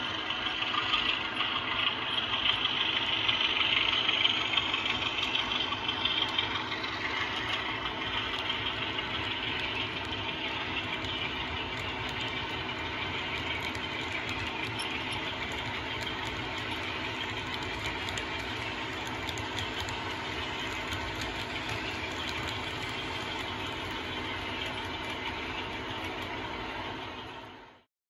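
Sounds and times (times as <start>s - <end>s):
model train diesel engine sound: 0.0s - 27.9s.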